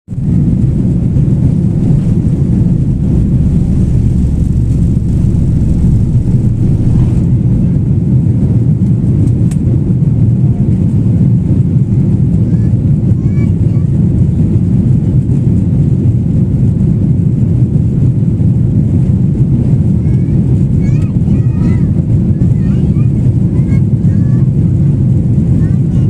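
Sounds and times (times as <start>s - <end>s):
airliner engines rumbling: 0.1s - 26.0s.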